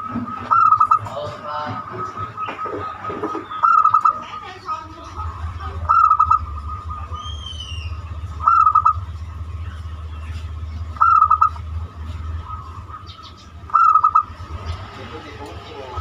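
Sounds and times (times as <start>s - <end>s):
dove cooing: 0.0s - 9.2s, 10.9s - 14.7s
high bird chirp: 0.0s - 16.0s
steady low hum: 0.0s - 16.0s.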